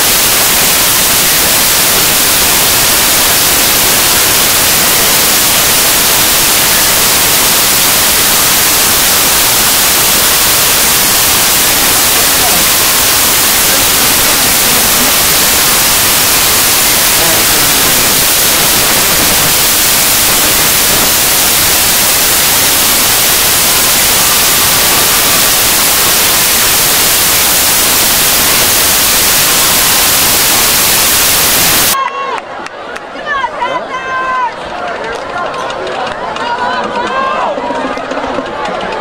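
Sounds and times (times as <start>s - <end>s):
loud static hiss: 0.0s - 32.0s
faint voices: 0.8s - 27.1s, 32.0s - 39.0s.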